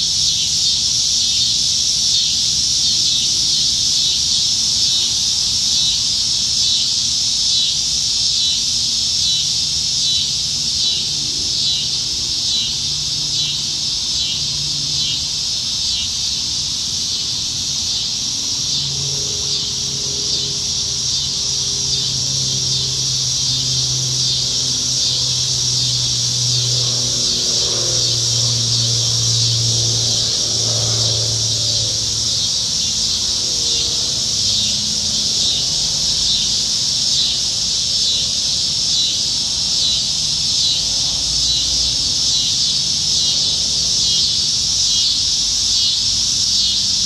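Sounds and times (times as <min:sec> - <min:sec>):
cicadas buzzing: 0:00.0 - 0:47.0.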